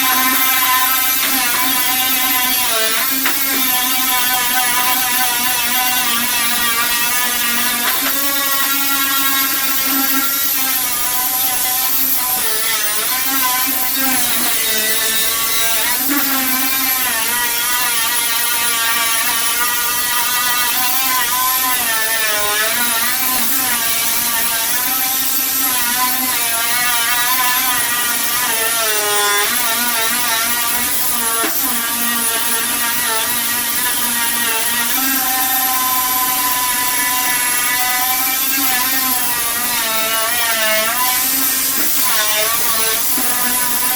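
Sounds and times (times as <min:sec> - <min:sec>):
power tool whining: 0:00.0 - 0:43.9.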